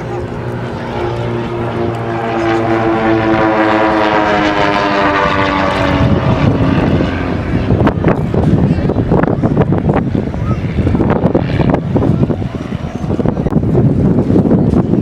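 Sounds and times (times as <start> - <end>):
propeller airplane flying past: 0.0 - 15.0
wind gusts on microphone: 0.0 - 15.0.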